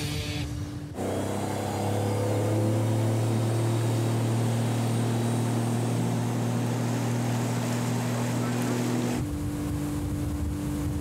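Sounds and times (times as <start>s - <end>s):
outboard motor running: 0.0s - 11.0s
water rushing past hull: 0.6s - 11.0s.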